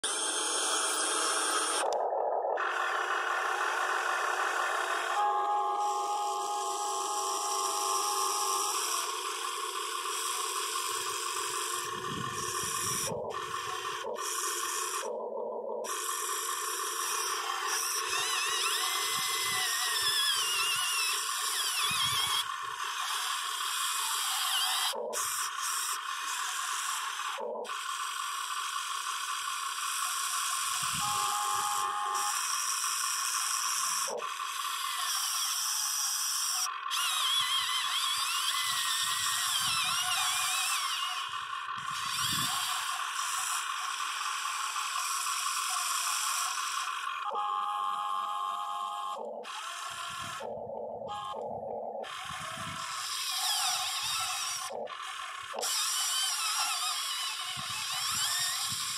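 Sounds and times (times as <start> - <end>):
electric motors whining: 0.0 - 58.9.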